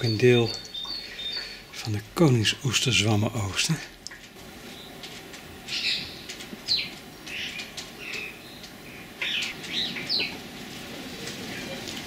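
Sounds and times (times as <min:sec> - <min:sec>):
wild birds chirping and whistling: 0:00.0 - 0:03.1, 0:04.6 - 0:12.0.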